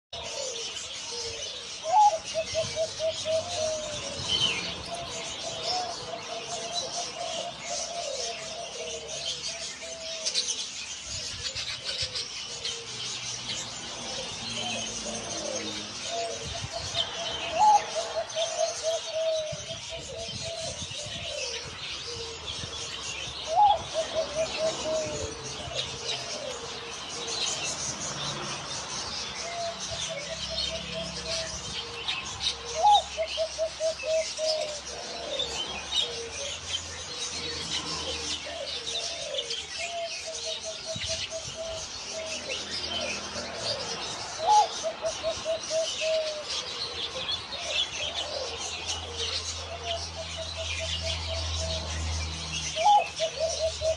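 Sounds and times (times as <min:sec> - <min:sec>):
small birds chirping: 0:00.1 - 0:53.9
dove cooing: 0:00.2 - 0:53.9.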